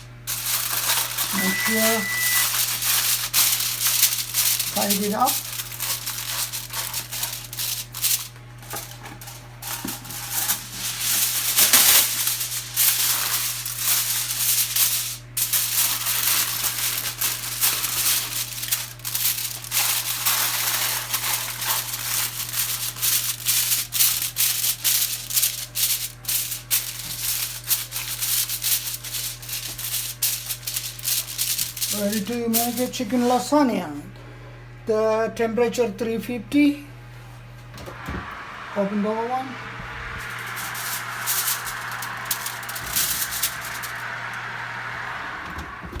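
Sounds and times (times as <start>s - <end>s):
aluminium foil crinkling: 0.0s - 33.6s, 39.8s - 45.0s
steady low hum: 0.0s - 46.0s.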